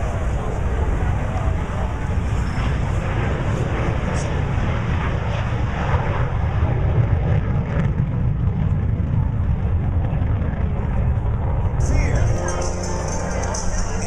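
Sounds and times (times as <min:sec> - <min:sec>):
wind buffeting microphone: 0:00.0 - 0:12.8
aircraft engines rumbling: 0:00.0 - 0:14.0.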